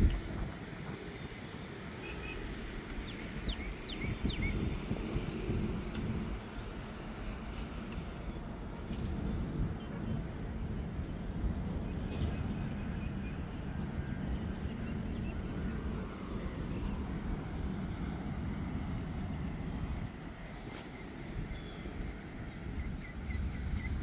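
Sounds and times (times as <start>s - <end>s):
low outdoor rumble: 2.7s - 24.0s.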